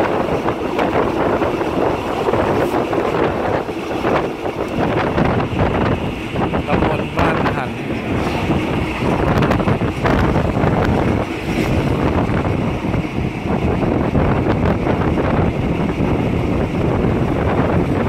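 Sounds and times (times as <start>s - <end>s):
moving train rumble: 0.0s - 18.0s
wind buffeting microphone: 0.0s - 18.0s.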